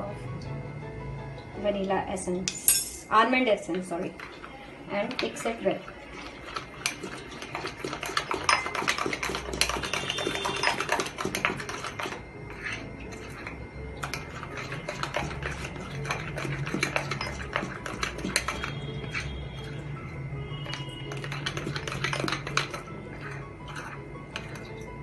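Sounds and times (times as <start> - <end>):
utensil scraping mixing bowl: 4.2 - 25.0.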